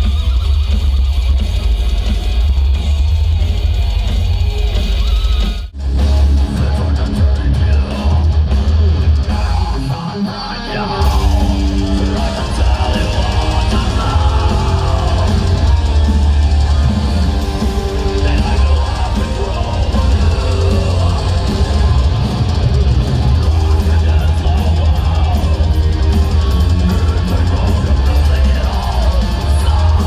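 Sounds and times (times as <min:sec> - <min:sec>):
distorted electric guitars: 0:00.0 - 0:30.0
heavy drums: 0:00.0 - 0:30.0.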